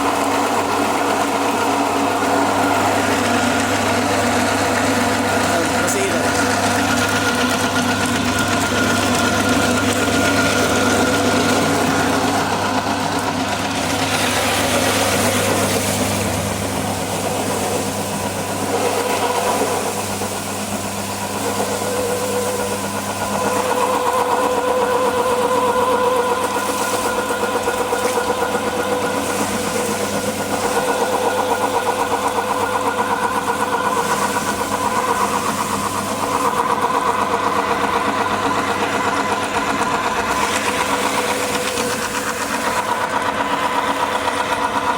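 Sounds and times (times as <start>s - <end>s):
husk separating machine drone: 0.0s - 44.9s
mid-pitched machine whine: 0.0s - 44.9s.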